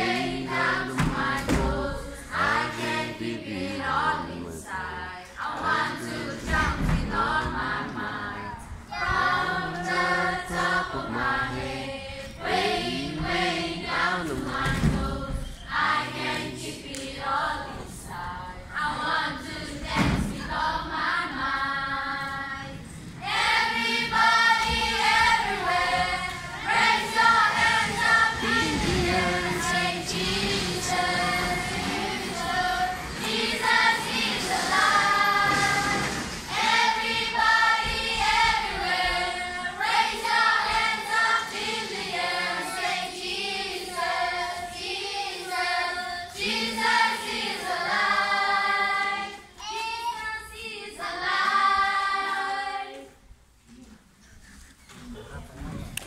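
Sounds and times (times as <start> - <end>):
children's choir singing: 0.0 - 53.3.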